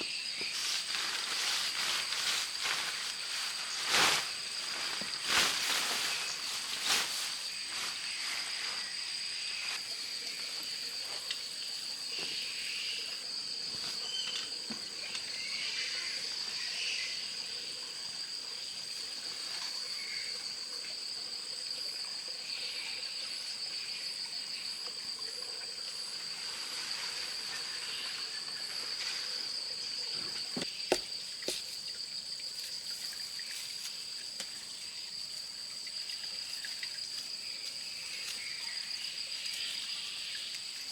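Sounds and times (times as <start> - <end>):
insects buzzing: 0.0 - 40.9.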